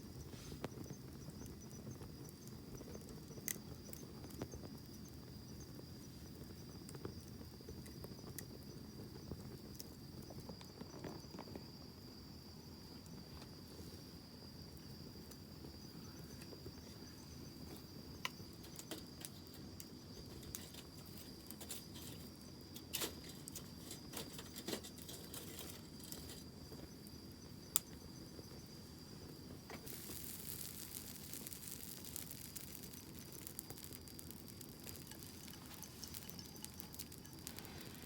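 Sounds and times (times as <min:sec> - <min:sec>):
campfire crackling and popping: 0:00.0 - 0:13.7, 0:14.5 - 0:38.0
high insect trill: 0:00.0 - 0:38.0.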